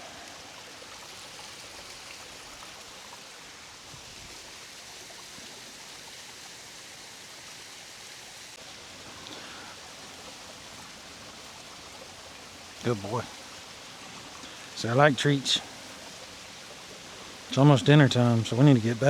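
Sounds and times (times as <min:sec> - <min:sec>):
small waterfall rushing: 0:00.0 - 0:19.0.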